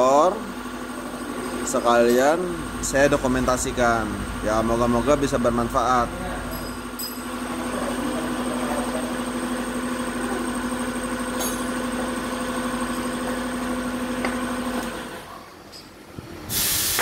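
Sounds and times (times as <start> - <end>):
machine humming: 0.0 - 15.3.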